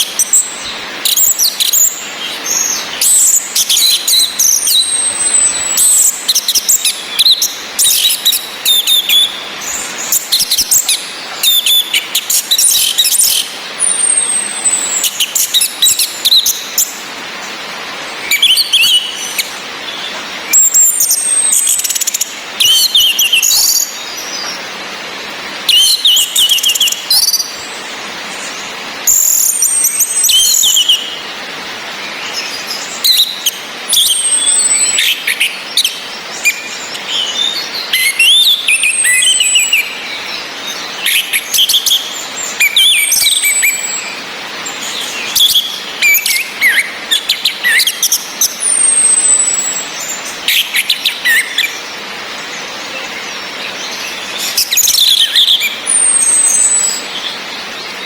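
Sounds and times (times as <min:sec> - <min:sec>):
thrush chirping and whistling: 0:00.0 - 0:17.1, 0:18.1 - 0:24.7, 0:25.6 - 0:58.0
rain hiss: 0:00.0 - 0:58.0.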